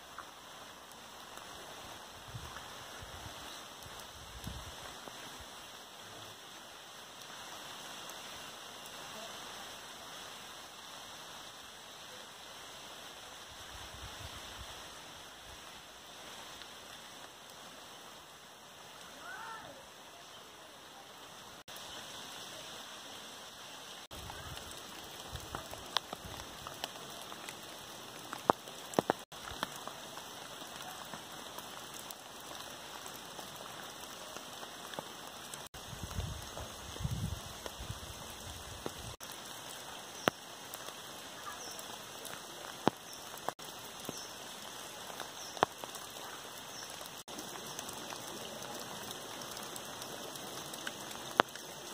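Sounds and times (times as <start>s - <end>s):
rain falling on leaves: 0.0s - 51.9s.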